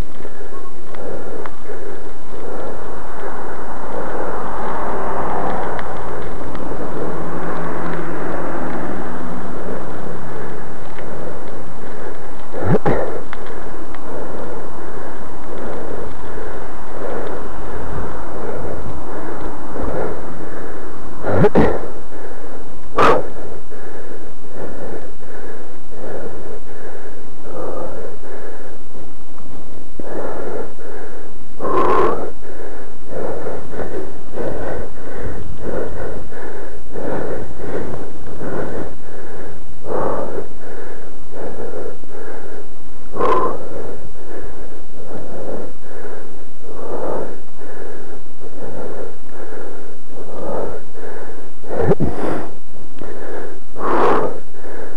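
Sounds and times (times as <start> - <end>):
person breathing hard: 0.0 - 54.9.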